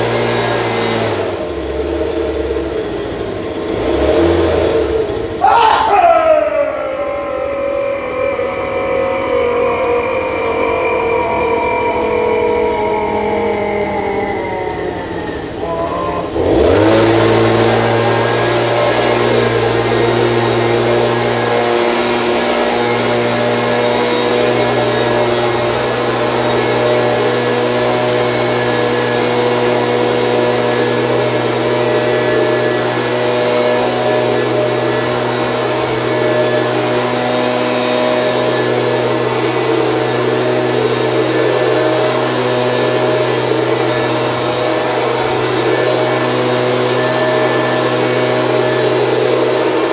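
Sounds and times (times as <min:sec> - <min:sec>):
leaf blower engine running: 0:00.0 - 0:49.9.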